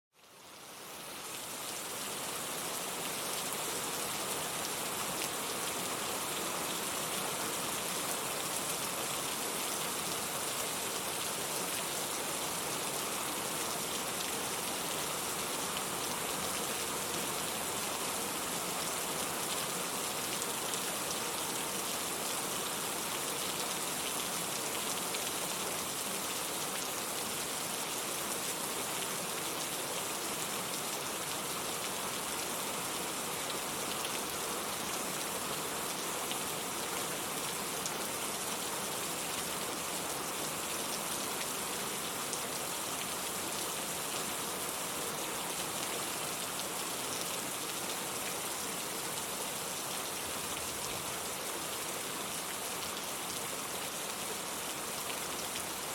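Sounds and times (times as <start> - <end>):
steady rain falling: 0.1 - 55.9.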